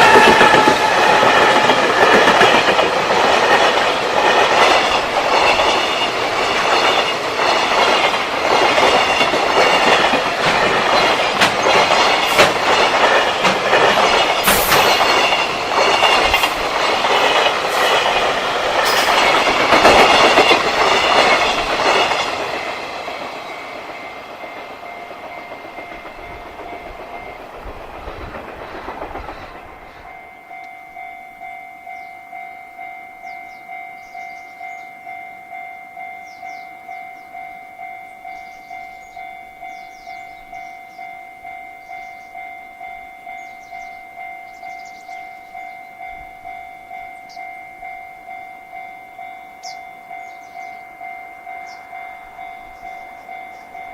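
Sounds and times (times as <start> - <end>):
level crossing alarm bell: 0.0 - 27.5, 30.0 - 53.9
freight train clattering past: 0.0 - 32.4, 33.2 - 53.9.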